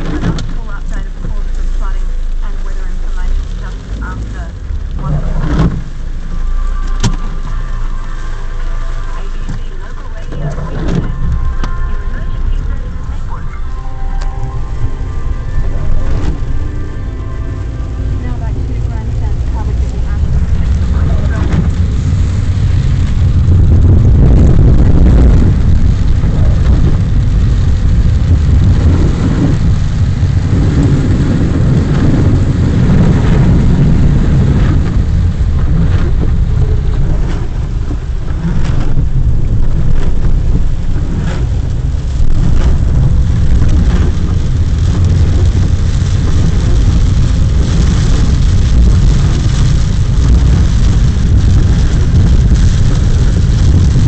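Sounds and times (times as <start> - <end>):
car engine and road noise: 0.0 - 54.0
rain hiss: 0.0 - 54.0.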